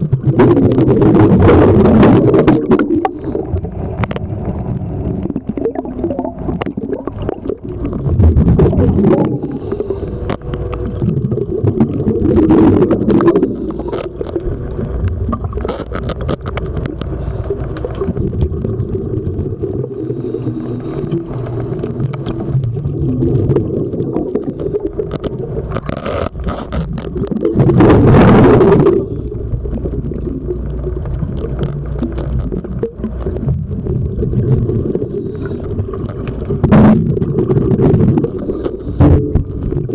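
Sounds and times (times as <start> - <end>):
diver exhaling bubbles: 0.0 - 16.0, 17.2 - 39.9
low rumble of water: 0.0 - 39.9.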